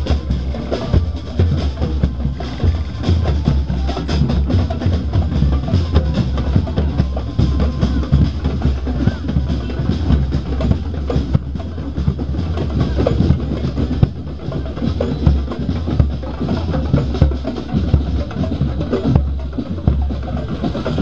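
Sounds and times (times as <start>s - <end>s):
drums in a busy rhythm: 0.0s - 21.0s.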